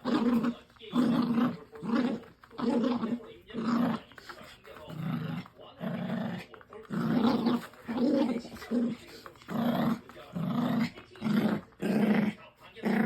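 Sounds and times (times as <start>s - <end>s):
dog play-growling: 0.0s - 13.0s.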